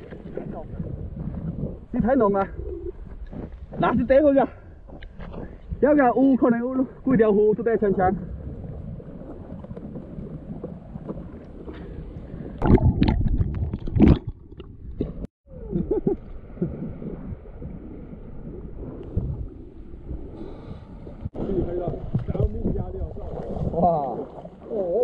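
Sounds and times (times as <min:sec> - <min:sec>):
sea water sloshing and splashing: 0:00.0 - 0:05.8, 0:06.8 - 0:15.3, 0:16.2 - 0:25.0.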